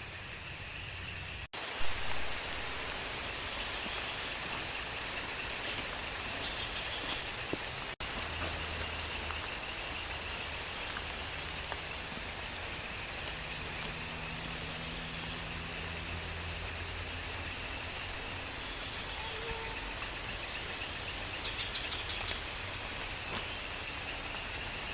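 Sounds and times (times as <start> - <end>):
steady rain falling: 1.4 - 24.9.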